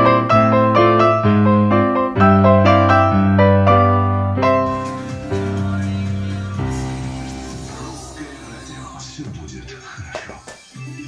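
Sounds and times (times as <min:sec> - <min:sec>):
slow piano melody: 0:00.0 - 0:09.6.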